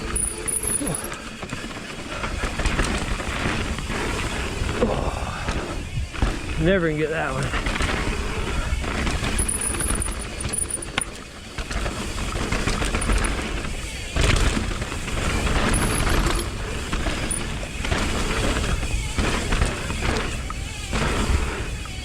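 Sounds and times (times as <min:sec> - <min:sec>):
bike rattling on rough ground: 0:00.0 - 0:22.0.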